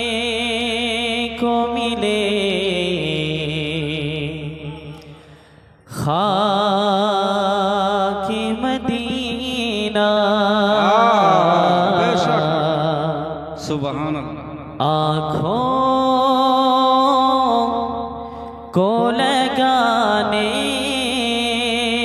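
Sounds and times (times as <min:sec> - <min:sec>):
man singing with vibrato: 0:00.0 - 0:22.0.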